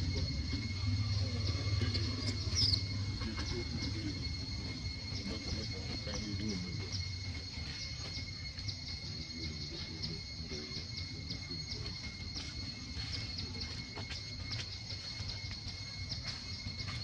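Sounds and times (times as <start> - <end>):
high chirp: 0.0 - 17.0
insects droning: 0.0 - 17.0.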